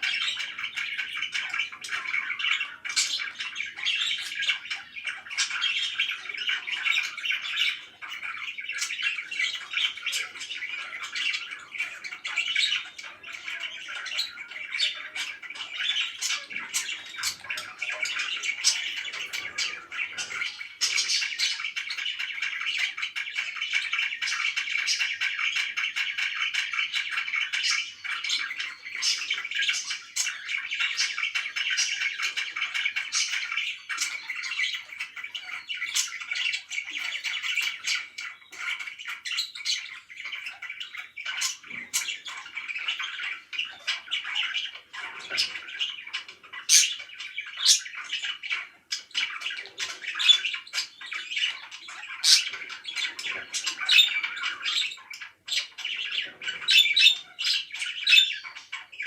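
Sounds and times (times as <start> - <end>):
parakeets chirping and squawking: 0.0 - 59.0.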